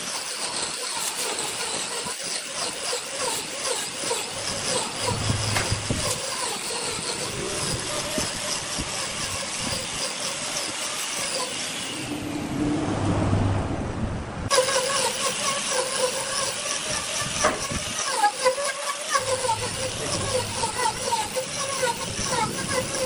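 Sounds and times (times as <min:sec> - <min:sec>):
angle grinder grinding wood: 0:00.0 - 0:12.2, 0:14.5 - 0:23.0.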